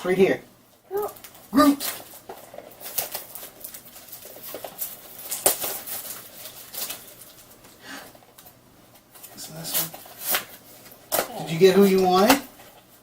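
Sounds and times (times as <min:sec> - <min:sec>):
packaging crackling and rustling: 0:01.0 - 0:13.0.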